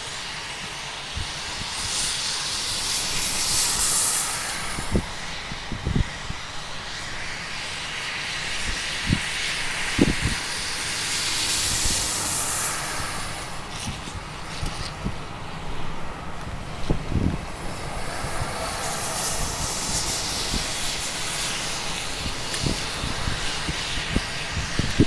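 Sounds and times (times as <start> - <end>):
jet engines hissing and whining: 0.0 - 25.0.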